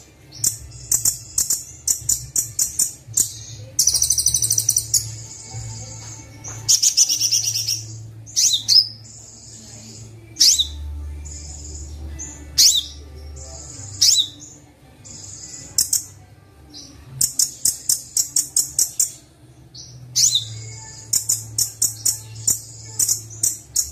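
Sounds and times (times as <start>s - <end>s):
songbird trills and chirps: 0.0s - 23.9s.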